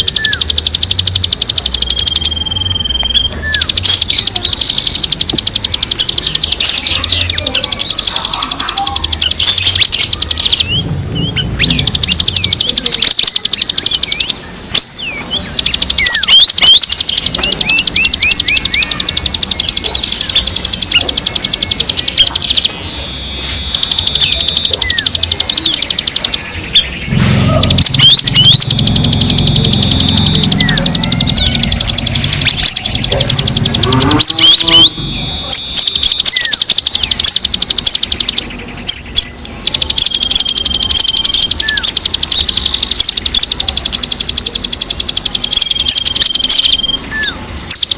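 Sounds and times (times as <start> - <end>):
fast buzzing bird trill: 0.0 - 47.9
sharp rising bird chirps: 0.0 - 47.9.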